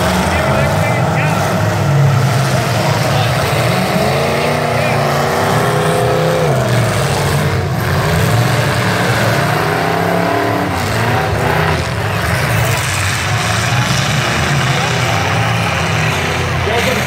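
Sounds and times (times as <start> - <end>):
truck engines revving hard: 0.0 - 17.0.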